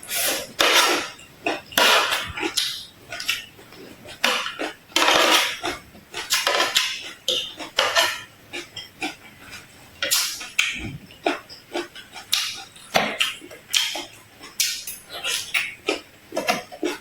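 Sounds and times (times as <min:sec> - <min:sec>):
crunchy chewing: 0:00.2 - 0:17.0.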